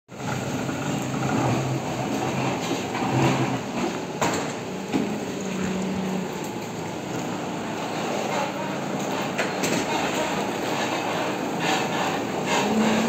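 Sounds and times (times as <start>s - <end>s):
forklift engine running: 0.1s - 13.0s.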